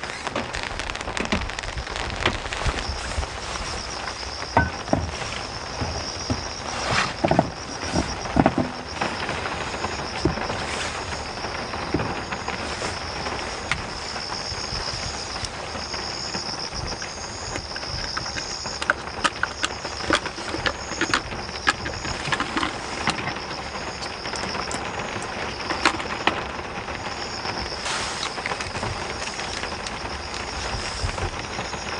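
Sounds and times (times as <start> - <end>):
steady rain falling: 0.0 - 31.9
high pulsing insect chirring: 1.6 - 31.9.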